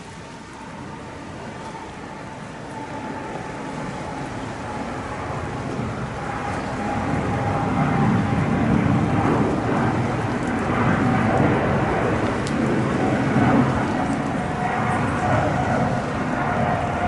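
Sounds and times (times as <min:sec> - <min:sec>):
jet engines at takeoff rumbling: 0:00.0 - 0:17.0.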